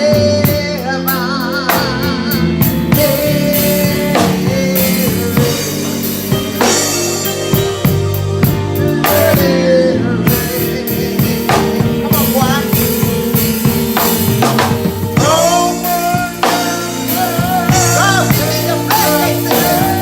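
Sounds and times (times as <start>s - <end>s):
person singing: 0.0s - 7.1s, 8.4s - 20.0s
church band music: 0.0s - 20.0s
drum kit: 0.0s - 20.0s.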